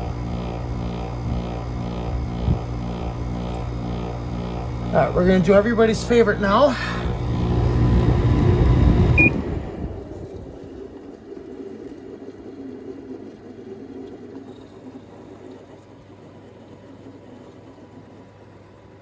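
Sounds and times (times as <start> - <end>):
air conditioner winding down whine: 0.0 - 16.2.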